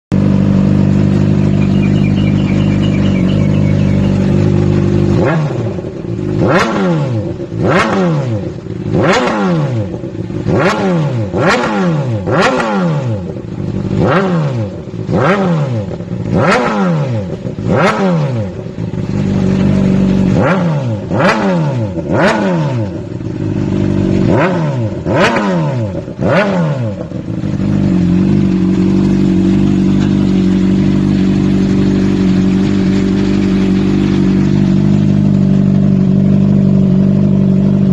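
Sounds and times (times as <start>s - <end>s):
motorcycle engine revving: 0.1s - 37.9s.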